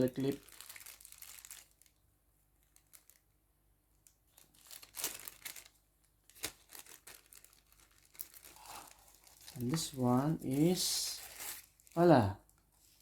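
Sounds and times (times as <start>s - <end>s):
plastic packaging crinkling: 0.0s - 2.0s, 2.6s - 3.3s, 4.0s - 13.0s.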